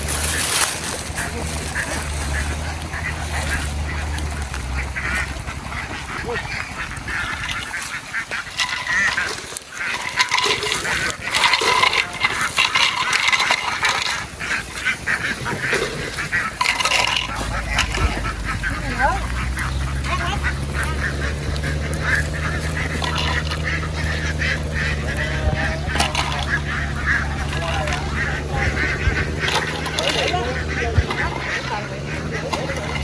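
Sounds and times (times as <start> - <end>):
ducks quacking: 0.0 - 33.0
low steady hum: 0.0 - 33.0.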